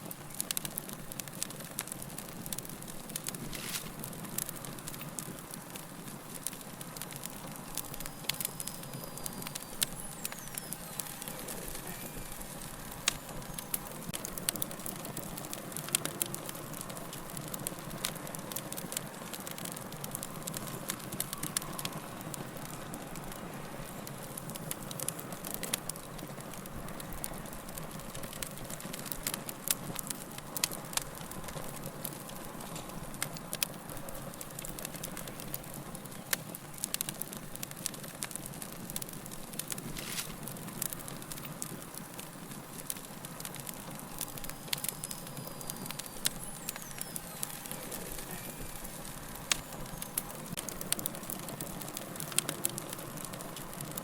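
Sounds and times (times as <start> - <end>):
log fire burning: 0.0 - 54.0
wood crackling and popping: 0.0 - 54.0.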